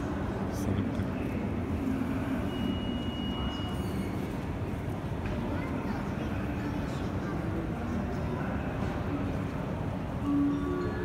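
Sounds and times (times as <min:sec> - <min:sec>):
low rumble of mall background noise: 0:00.0 - 0:11.0.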